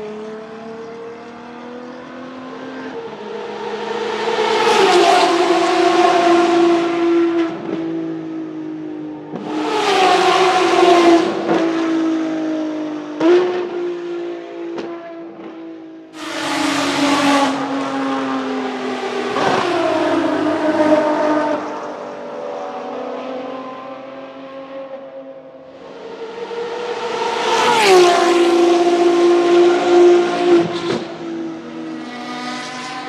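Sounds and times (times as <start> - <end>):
race car engines high-revving: 0.0 - 33.0.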